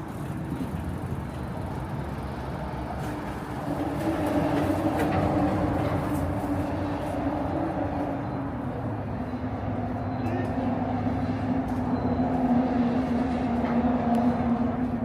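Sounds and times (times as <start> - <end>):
vehicle running with droning hum: 0.0 - 15.0.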